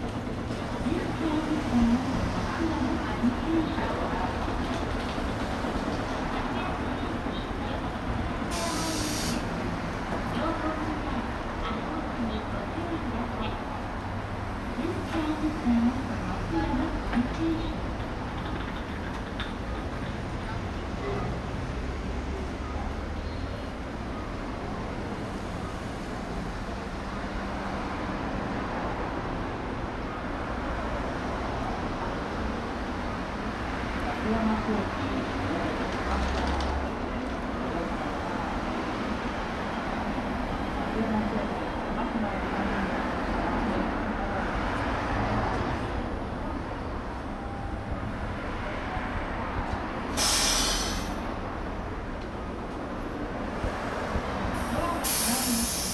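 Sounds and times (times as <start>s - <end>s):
low rumble of street noise: 0.0s - 55.9s.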